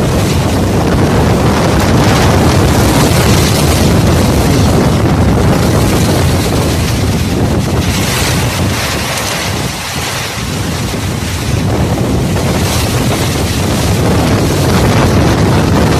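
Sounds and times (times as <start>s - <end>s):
heavy rain: 0.0s - 15.9s
strong wind gusts: 0.0s - 15.9s
wind buffeting microphone: 0.0s - 15.9s.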